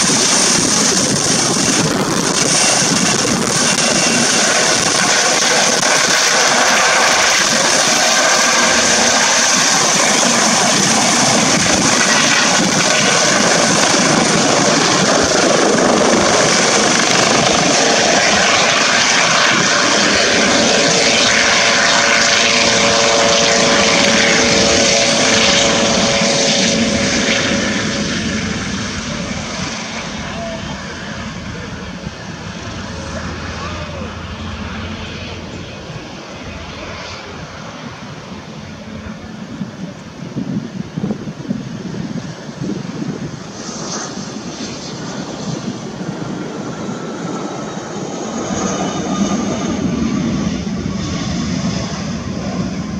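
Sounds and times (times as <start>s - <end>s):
helicopter rotor and turbine noise: 0.0s - 52.9s.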